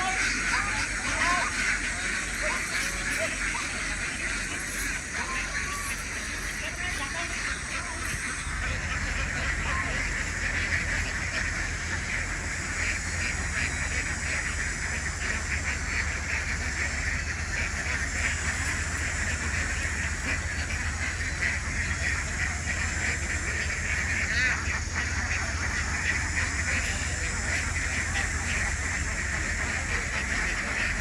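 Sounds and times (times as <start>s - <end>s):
ducks quacking: 0.0s - 31.0s.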